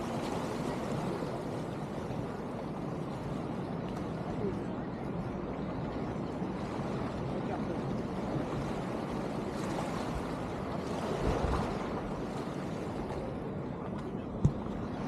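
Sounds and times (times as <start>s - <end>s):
sea surf: 0.0s - 15.0s.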